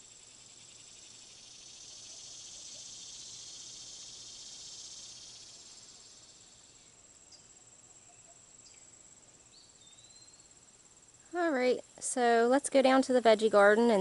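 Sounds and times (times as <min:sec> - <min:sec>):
insects chorus shrill hum: 0:00.0 - 0:14.0.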